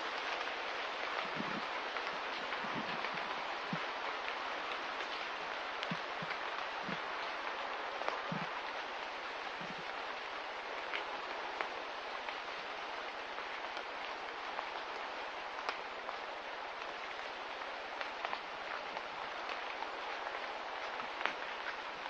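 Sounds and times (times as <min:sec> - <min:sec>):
light rain hissing: 0:00.0 - 0:22.0.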